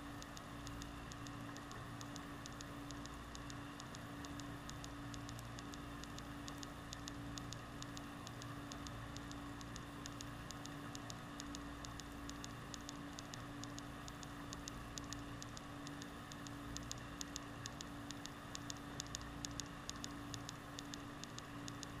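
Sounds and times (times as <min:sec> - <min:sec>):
crackle of sharp clicks: 0:00.0 - 0:22.0
steady low underwater hum: 0:00.0 - 0:22.0.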